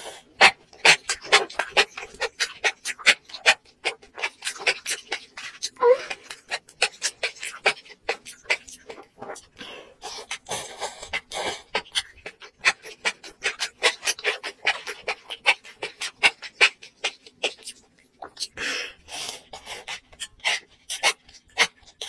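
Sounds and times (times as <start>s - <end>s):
wet chewing and mouth smacking: 0.0s - 22.0s.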